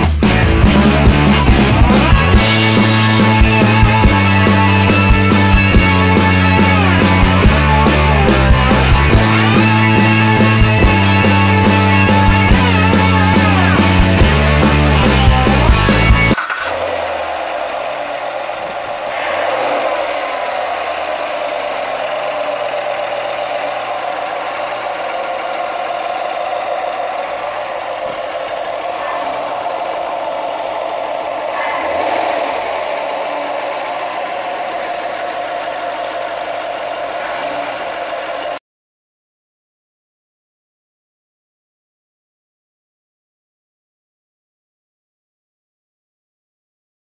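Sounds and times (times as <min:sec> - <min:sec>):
car engine idling and revving: 0:00.0 - 0:38.6.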